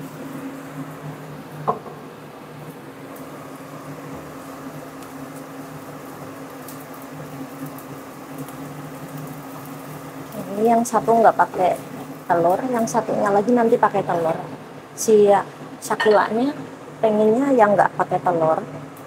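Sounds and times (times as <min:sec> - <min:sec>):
food frying in a pan: 0:00.0 - 0:19.0
range hood fan humming: 0:00.0 - 0:19.0.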